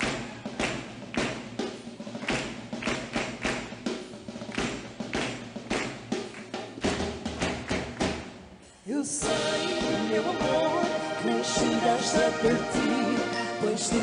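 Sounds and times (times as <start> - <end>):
drums beating a steady rhythm: 0.0 - 14.0.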